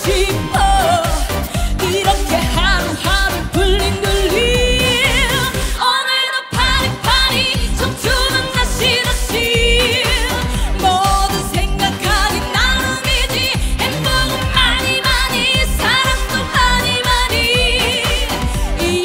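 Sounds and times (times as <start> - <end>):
upbeat pop backing track: 0.0 - 19.0
woman singing into microphone: 0.0 - 19.0.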